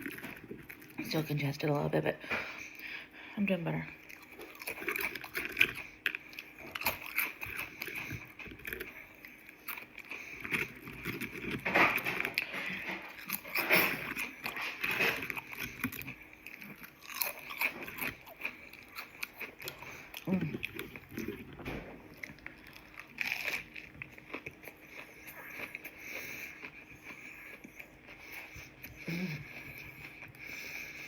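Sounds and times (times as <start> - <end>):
person chewing and crunching food: 0.0 - 3.2, 3.8 - 31.0.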